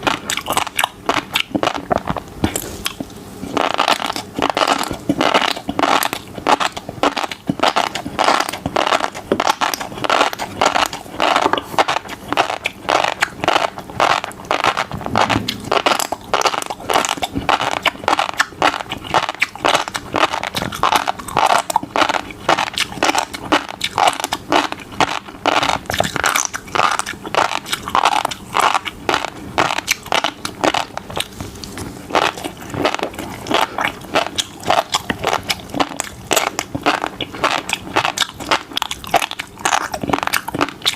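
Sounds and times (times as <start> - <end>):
chewing fish roe popping: 0.0 - 40.9.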